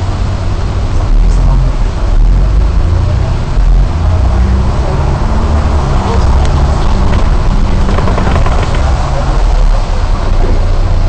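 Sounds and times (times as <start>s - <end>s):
bus diesel engine drone: 0.0s - 11.0s
wet road noise: 0.0s - 11.0s.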